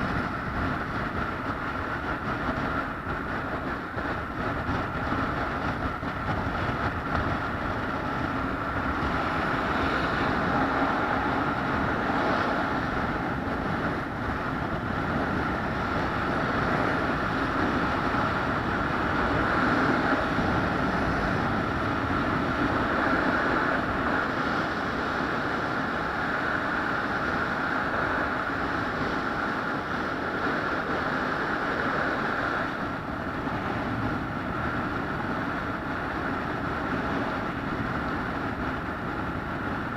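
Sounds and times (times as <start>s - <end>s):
moving vehicle drone: 0.0s - 39.9s.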